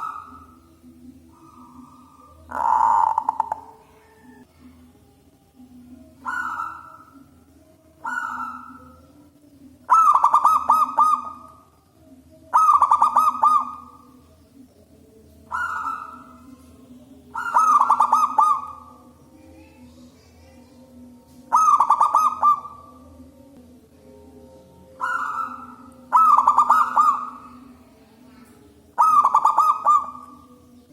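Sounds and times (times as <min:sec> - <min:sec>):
dove cooing with rolling trill: 0:00.0 - 0:04.7, 0:06.0 - 0:14.5, 0:15.3 - 0:20.4, 0:21.0 - 0:23.5, 0:24.6 - 0:30.9.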